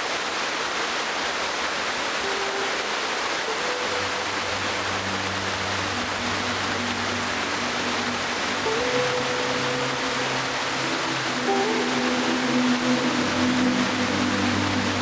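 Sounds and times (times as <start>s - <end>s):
waterfall rushing: 0.0s - 15.0s
soft music with low bass: 2.3s - 15.0s.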